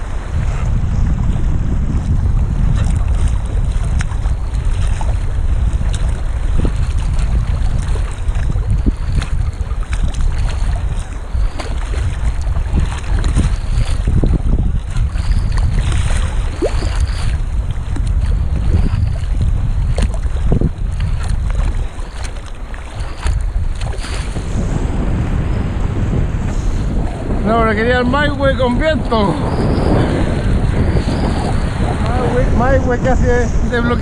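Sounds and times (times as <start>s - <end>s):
paddle splashes: 0.0s - 34.0s
waves slapping kayak hull: 0.0s - 34.0s
wind buffeting microphone: 0.0s - 34.0s.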